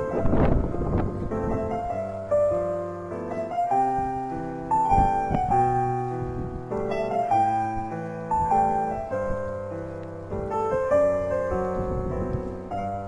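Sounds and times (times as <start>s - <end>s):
gust of wind: 0.0s - 13.0s
slow piano music: 0.0s - 13.0s.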